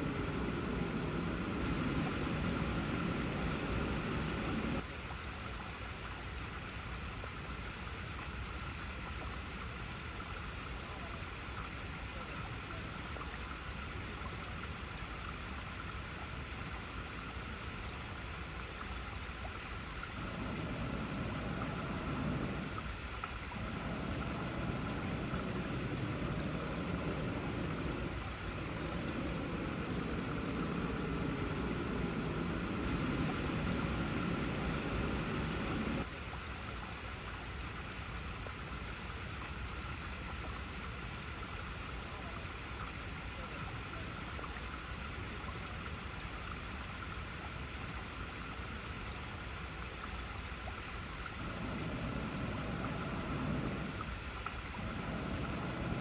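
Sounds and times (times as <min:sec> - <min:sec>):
deep gushing water: 0:00.0 - 0:56.0
water flowing over rocks: 0:00.0 - 0:56.0.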